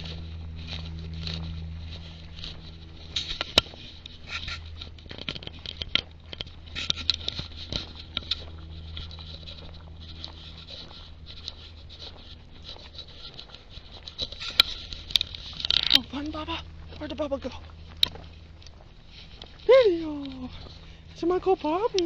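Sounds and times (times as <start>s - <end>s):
crackling footsteps: 0.0s - 22.0s
low hum: 0.0s - 22.0s.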